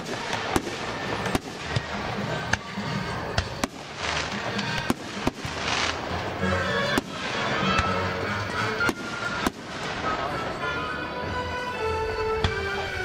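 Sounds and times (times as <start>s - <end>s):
fireworks bangs: 0.0s - 10.6s
background music: 0.0s - 13.0s.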